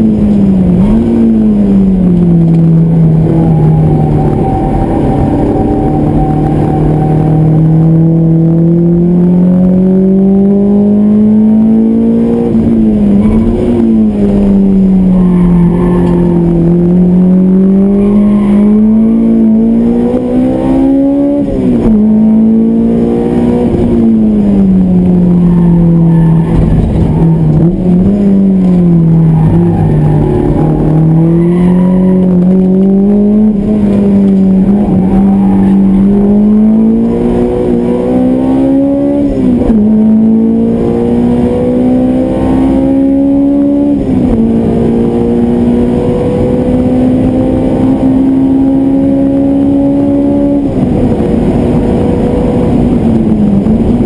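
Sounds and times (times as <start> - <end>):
engine gear shifts: 0.0 - 9.9, 10.7 - 54.0
car engine revving in cabin: 0.0 - 54.0.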